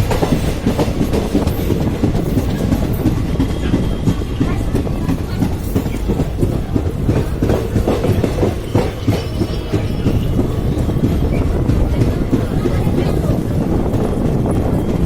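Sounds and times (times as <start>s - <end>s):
train rumbling over bridge: 0.0s - 15.0s
wheel clacks over rails: 0.0s - 15.0s.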